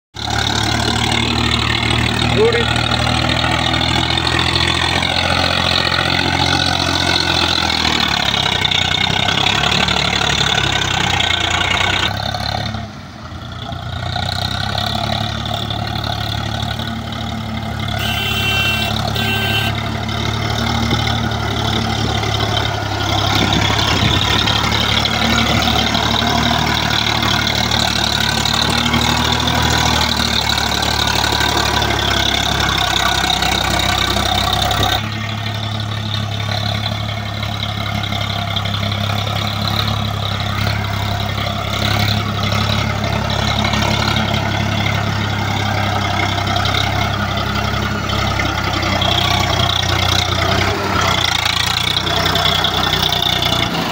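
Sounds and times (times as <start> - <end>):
tractor diesel engine running: 0.1 - 53.9.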